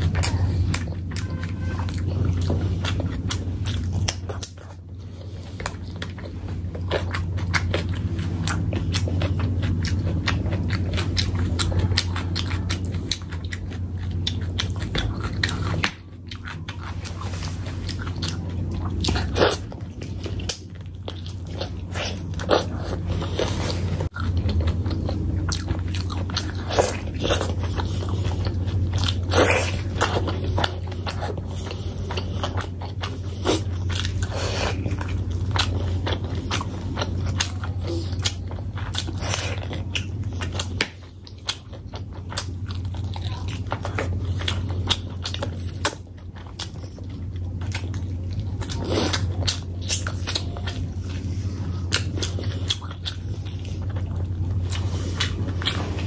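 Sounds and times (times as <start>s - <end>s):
person chewing with wet mouth sounds: 0.0s - 56.0s
steady low hum: 0.0s - 56.0s.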